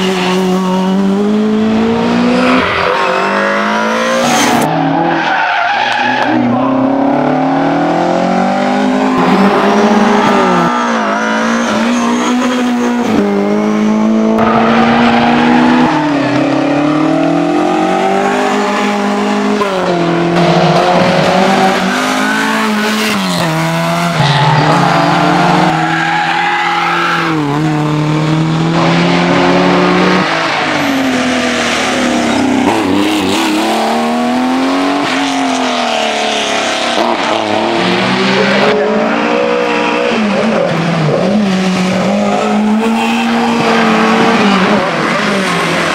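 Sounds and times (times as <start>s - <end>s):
rally car engines at full throttle: 0.0s - 45.9s.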